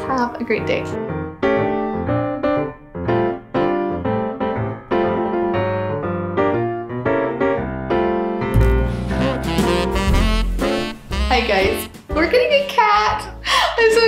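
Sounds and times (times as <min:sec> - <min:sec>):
piano chords music: 0:00.0 - 0:14.0.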